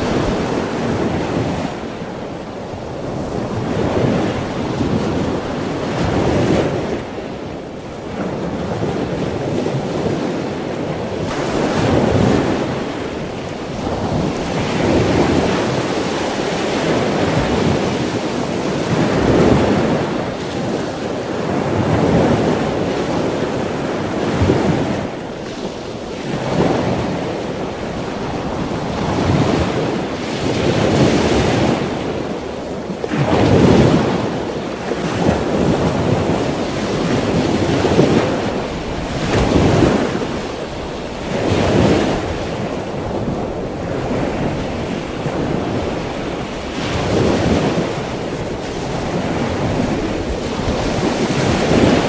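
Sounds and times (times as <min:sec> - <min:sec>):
waves breaking and washing in: 0:00.0 - 0:52.0
wind: 0:00.0 - 0:52.0.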